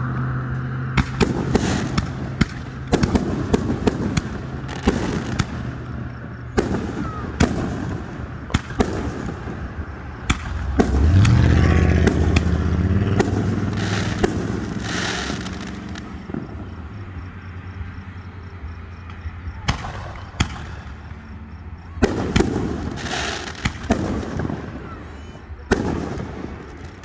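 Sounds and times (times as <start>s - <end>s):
fireworks bangs: 0.9s - 17.3s, 18.9s - 27.0s.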